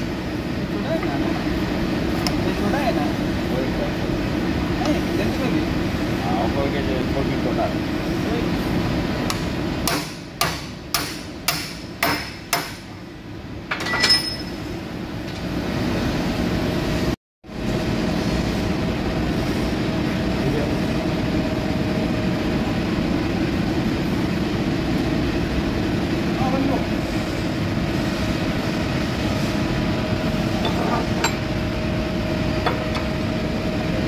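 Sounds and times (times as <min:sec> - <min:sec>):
low workshop machine hum: 0:00.0 - 0:34.0.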